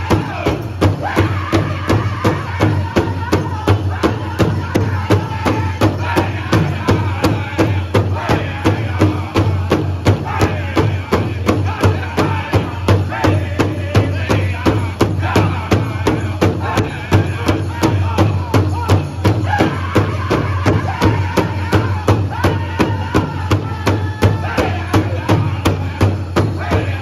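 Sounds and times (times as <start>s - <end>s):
large drum beating: 0.0s - 27.0s
men singing together: 0.0s - 27.0s.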